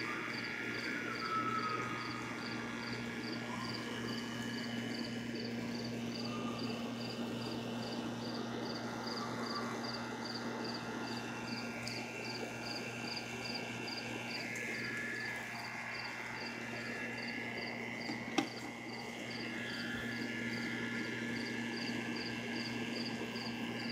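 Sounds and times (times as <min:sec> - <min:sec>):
pump humming: 0:00.0 - 0:23.9.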